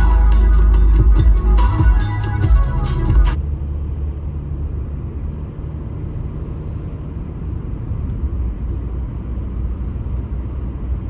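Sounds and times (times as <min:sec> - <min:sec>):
car engine drone: 0:00.0 - 0:11.0
tyres on road: 0:00.0 - 0:11.0.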